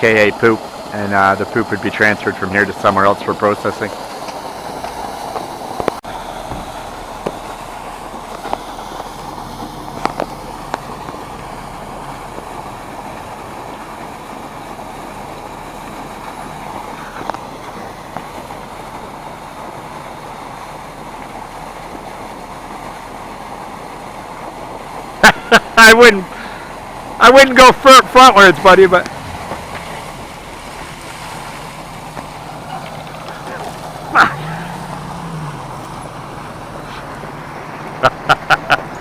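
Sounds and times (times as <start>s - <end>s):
pump running: 0.0s - 39.0s
water rushing through pipes: 0.0s - 39.0s.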